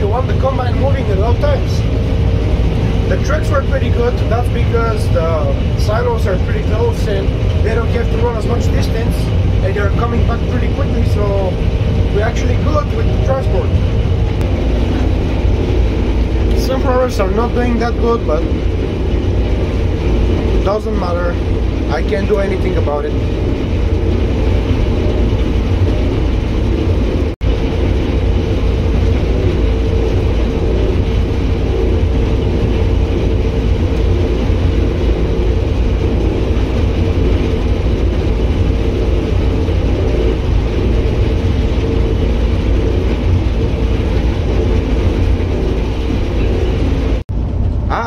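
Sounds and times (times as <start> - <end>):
combine harvester engine drone: 0.0 - 48.0.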